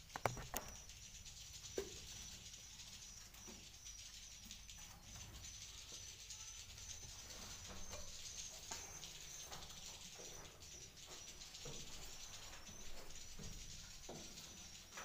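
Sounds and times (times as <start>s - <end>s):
swiftlets twittering: 0.4s - 15.0s.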